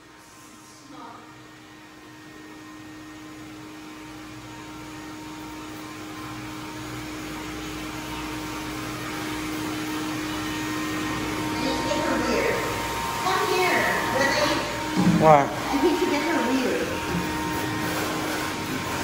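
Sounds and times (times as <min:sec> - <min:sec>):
dryer blower air rushing: 0:00.0 - 0:19.0
motor hum: 0:00.0 - 0:19.0.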